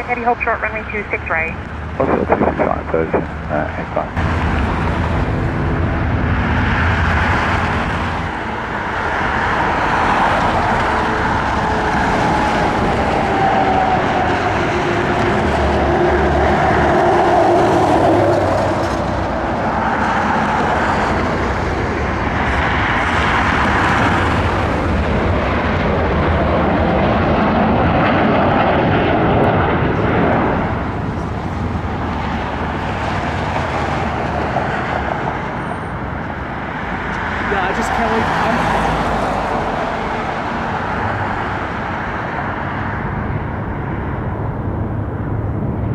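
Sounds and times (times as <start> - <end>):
jet engines rushing and whining: 0.0 - 45.9.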